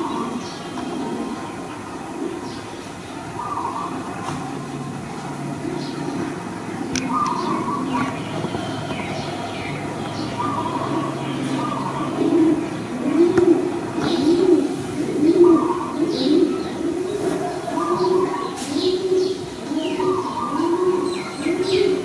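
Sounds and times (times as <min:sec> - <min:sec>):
dove cooing: 0:00.0 - 0:22.0
small birds chirping: 0:00.0 - 0:22.0.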